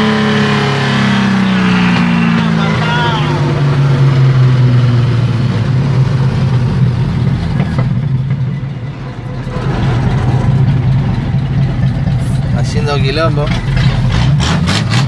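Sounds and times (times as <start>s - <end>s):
engine drone through open exhaust: 0.0s - 15.0s.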